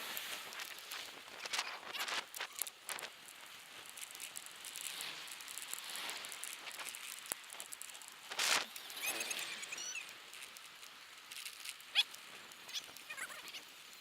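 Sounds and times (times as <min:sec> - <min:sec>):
rustling and crackling: 0:00.0 - 0:14.0.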